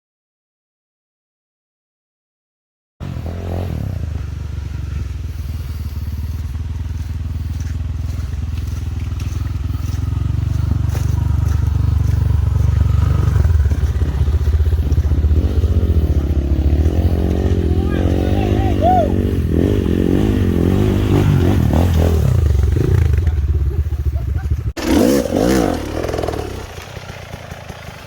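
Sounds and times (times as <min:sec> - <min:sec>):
dirt bike engine at low revs: 0:03.0 - 0:28.0.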